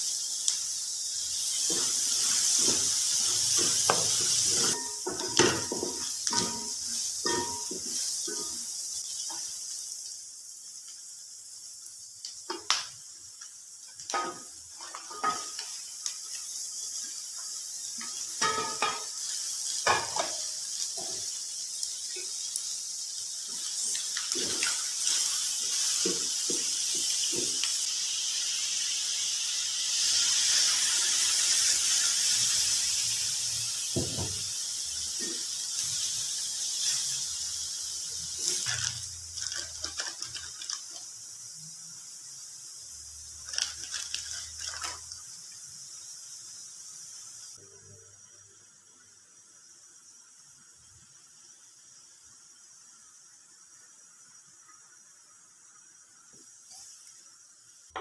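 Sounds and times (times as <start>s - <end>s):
vegetables sizzling in a wok: 0.0s - 58.0s.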